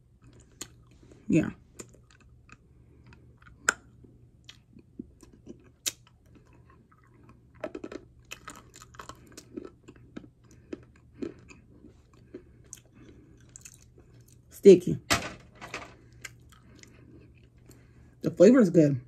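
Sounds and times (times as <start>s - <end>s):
person chewing hard clay: 0.0s - 14.5s, 16.0s - 18.2s.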